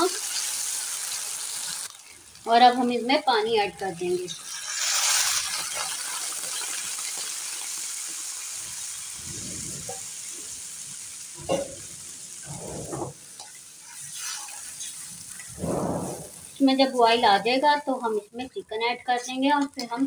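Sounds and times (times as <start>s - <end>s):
sauce sizzling in a wok: 0.0s - 20.0s.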